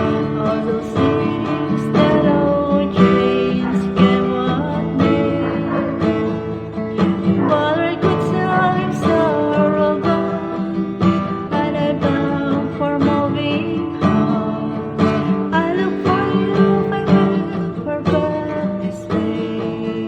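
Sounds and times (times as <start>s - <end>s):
acoustic guitar strumming: 0.0s - 20.0s
person singing: 0.0s - 20.0s.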